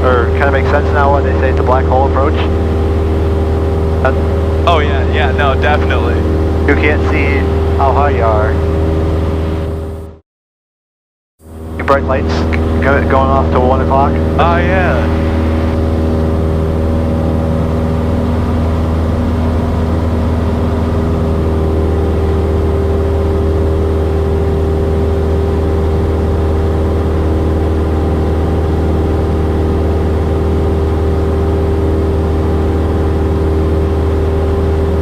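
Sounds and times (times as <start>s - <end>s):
aircraft engine and propeller droning: 0.0s - 10.2s, 11.4s - 35.0s.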